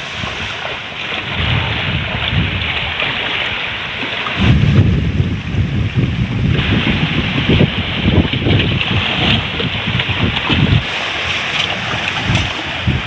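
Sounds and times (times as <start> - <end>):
person wading through seawater: 0.0 - 13.0
wind gusting on microphone: 0.0 - 13.0.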